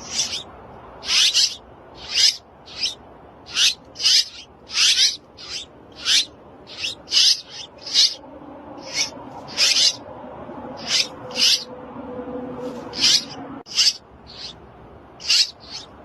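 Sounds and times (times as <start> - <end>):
nestlings begging calls: 0.0 - 11.8, 12.8 - 16.0.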